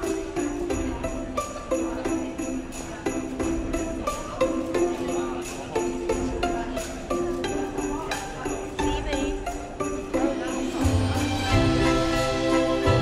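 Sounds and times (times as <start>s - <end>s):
background music with steady beat: 0.0s - 13.0s
jingling bells: 0.0s - 13.0s.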